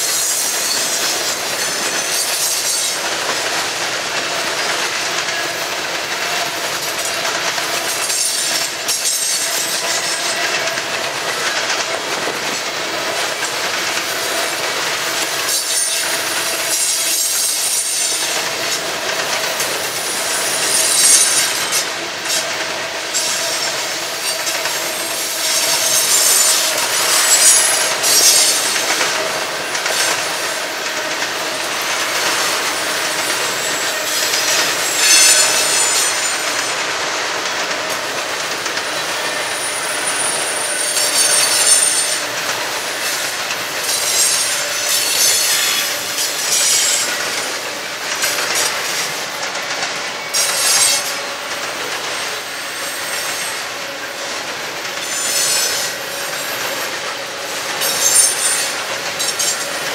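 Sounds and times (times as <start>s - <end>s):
steel wheels clattering on rails: 0.0s - 59.9s.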